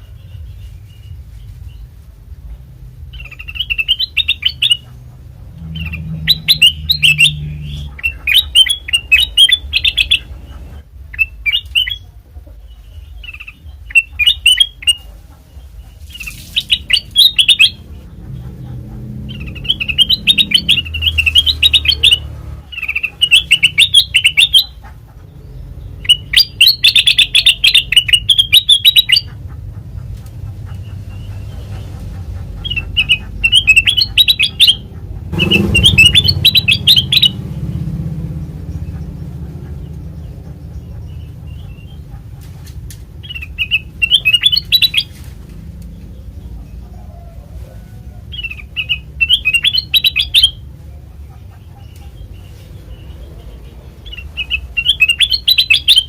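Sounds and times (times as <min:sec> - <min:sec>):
steady low hum: 0:00.0 - 0:56.0
bulbul chirping: 0:03.1 - 0:42.4, 0:43.1 - 0:45.2, 0:48.3 - 0:56.0.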